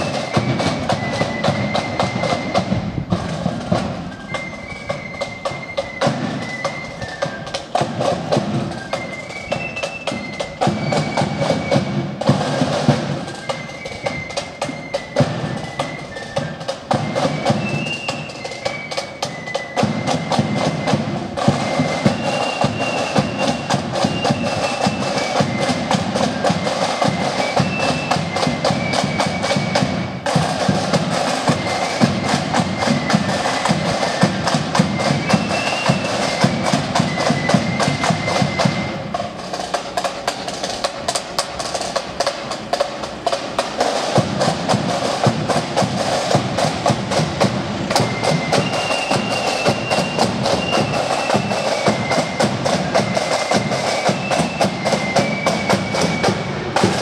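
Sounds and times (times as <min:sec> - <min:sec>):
flutes playing a tune: 0:00.0 - 0:57.0
snare and bass drums: 0:00.0 - 0:57.0.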